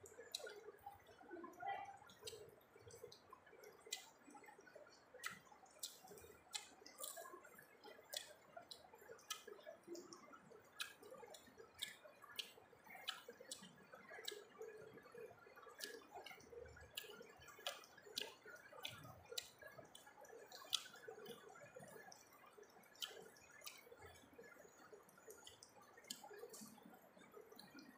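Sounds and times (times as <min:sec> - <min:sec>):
person chewing with wet mouth sounds: 0:00.0 - 0:27.9.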